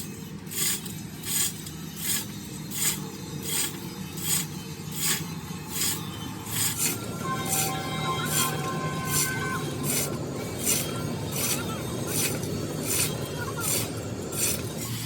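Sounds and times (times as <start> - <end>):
filing strokes on metal: 0.0 - 15.0
faint steady tones: 0.9 - 15.0.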